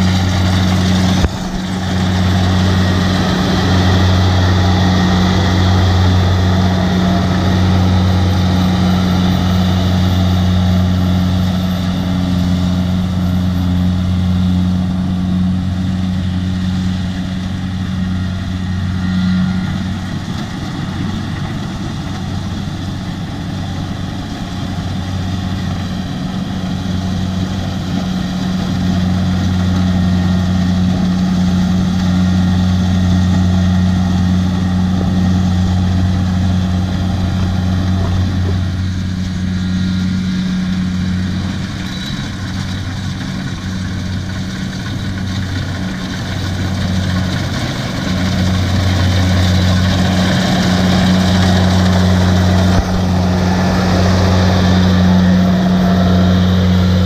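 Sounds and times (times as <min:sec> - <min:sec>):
combine harvester diesel engine humming: 0:00.0 - 0:57.0.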